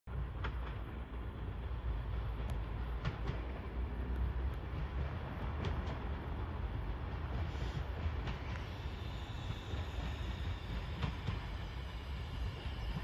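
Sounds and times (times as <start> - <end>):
passenger train rumbling: 0.1 - 13.0.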